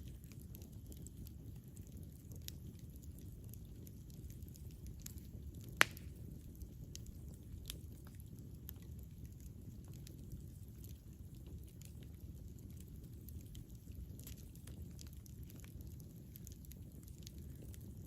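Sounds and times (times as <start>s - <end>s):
flames rumbling: 0.0s - 18.0s
wood crackling: 0.0s - 18.0s.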